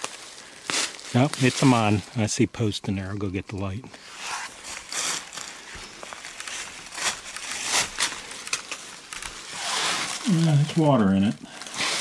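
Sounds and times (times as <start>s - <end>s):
leaves rustling and crackling: 0.0s - 12.0s.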